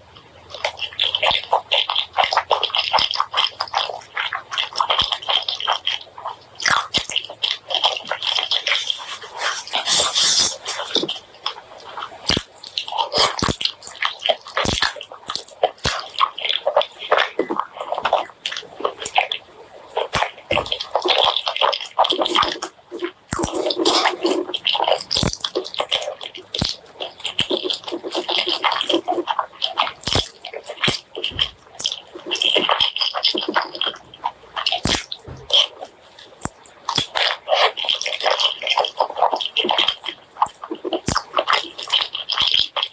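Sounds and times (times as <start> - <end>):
wet chewing: 0.0 - 42.9.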